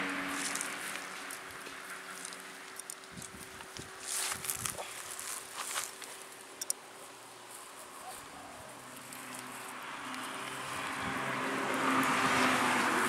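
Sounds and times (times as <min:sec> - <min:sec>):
vehicle engine approaching: 0:00.0 - 0:05.8, 0:07.0 - 0:13.0.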